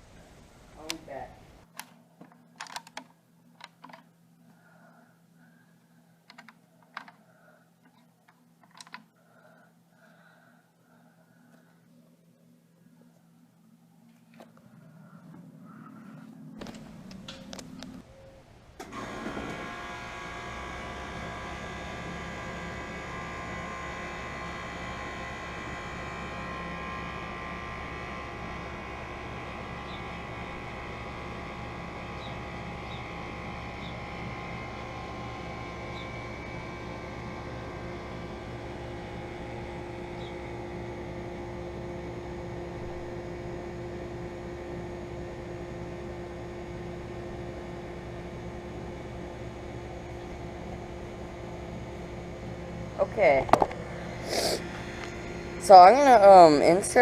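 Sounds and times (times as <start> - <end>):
air conditioner compressor hum: 0.0 - 57.0.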